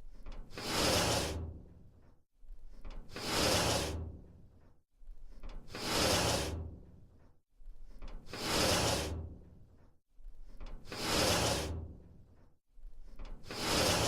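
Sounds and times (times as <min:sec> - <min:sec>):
metal sliding door scraping: 0:00.1 - 0:02.1, 0:02.7 - 0:04.6, 0:05.2 - 0:07.3, 0:07.9 - 0:09.8, 0:10.4 - 0:14.0.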